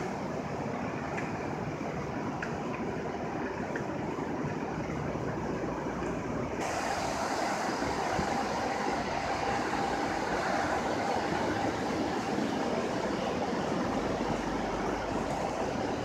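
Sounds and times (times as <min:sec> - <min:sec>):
street traffic rushing noise: 0:00.0 - 0:16.0.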